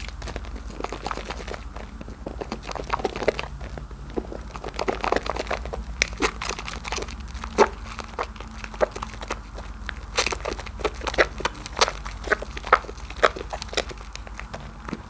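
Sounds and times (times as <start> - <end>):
soap lather crackling and squelching: 0.0 - 15.0.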